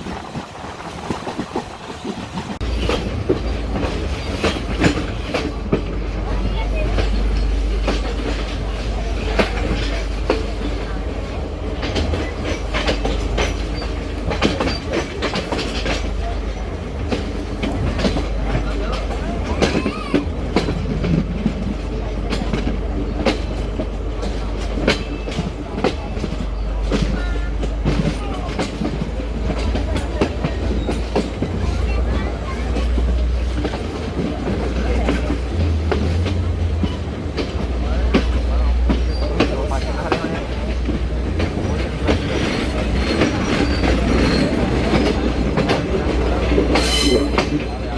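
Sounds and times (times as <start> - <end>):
train carriages rumbling: 0.0 - 47.9
wheels clacking over rail joints: 0.0 - 47.9.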